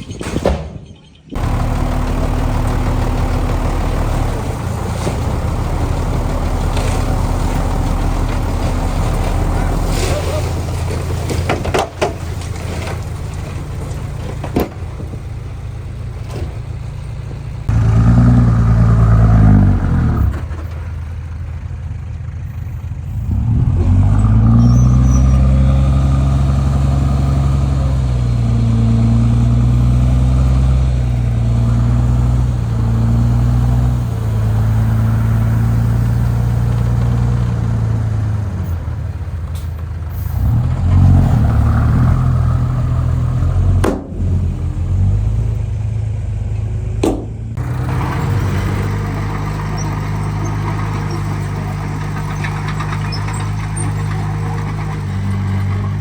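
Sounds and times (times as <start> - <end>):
heavy diesel engine revving: 1.4 - 56.0.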